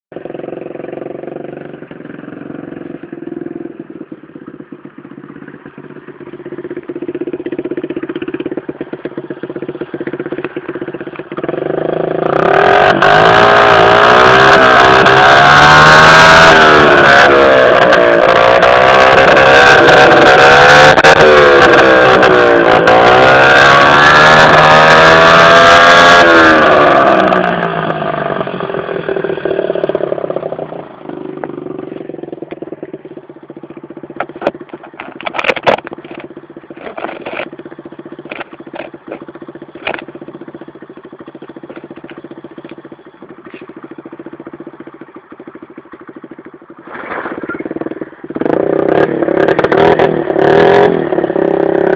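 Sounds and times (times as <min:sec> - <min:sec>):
scooter engine revving: 0:00.1 - 0:51.9.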